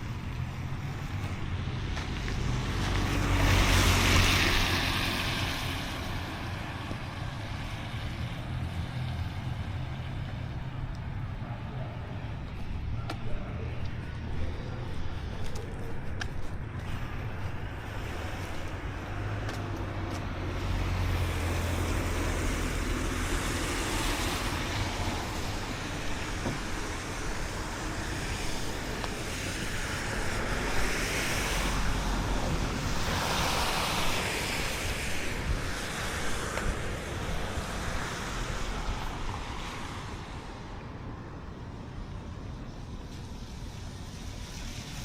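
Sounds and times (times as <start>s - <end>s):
road traffic: 0.0s - 45.0s
wind noise: 0.0s - 45.0s.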